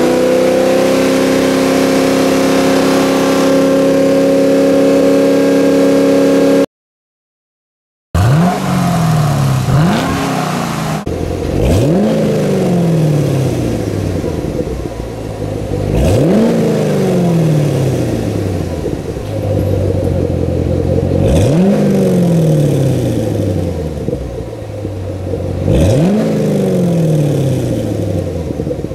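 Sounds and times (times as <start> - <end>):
car engine revving: 0.0 - 6.7, 8.2 - 28.9.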